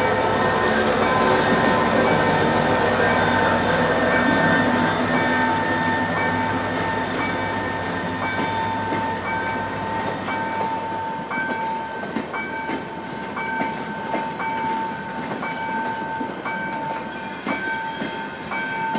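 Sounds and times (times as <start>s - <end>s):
crossing warning signal beeping: 0.0s - 18.9s.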